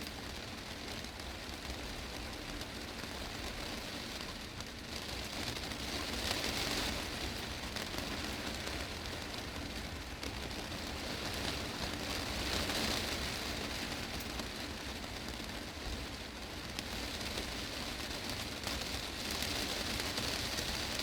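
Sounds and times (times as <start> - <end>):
heavy rain on glass roof: 0.0 - 21.0.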